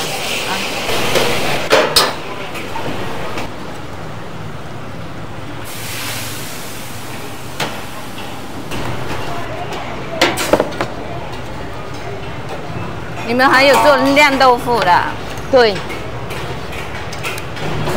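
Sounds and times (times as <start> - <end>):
busy kitchen background noise: 0.0 - 17.9.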